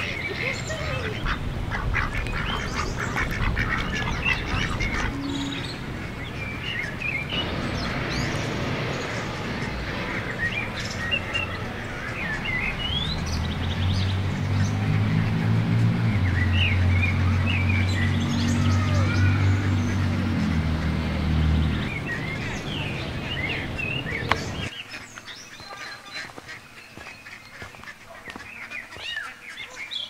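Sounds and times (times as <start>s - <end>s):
ducks quacking: 0.0s - 30.0s
small birds chirping: 0.0s - 30.0s.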